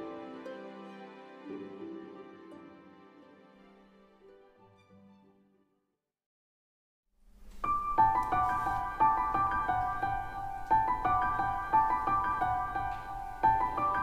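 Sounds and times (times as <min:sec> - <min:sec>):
piano melody: 0:00.0 - 0:04.6, 0:07.3 - 0:14.0.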